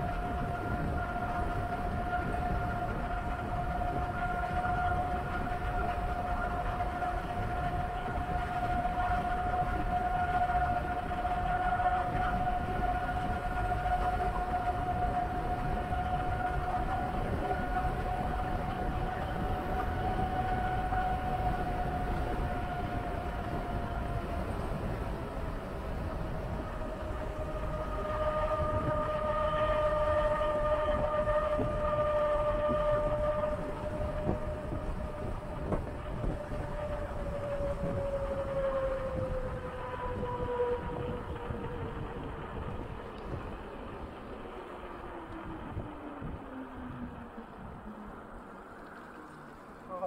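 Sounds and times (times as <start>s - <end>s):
bicycle tyres humming on asphalt: 0.0s - 50.0s
wind rushing over microphone: 0.0s - 50.0s.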